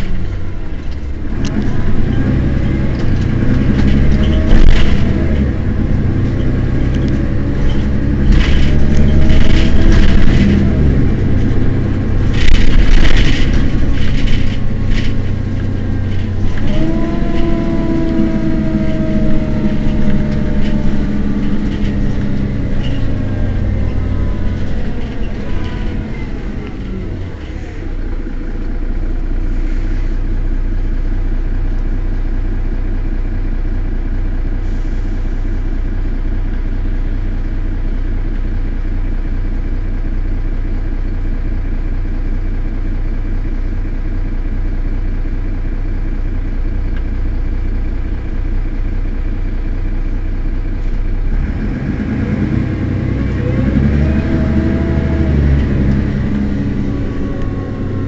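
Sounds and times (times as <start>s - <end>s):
bus engine idling: 0.0s - 58.0s
bus engine whine: 0.0s - 58.0s.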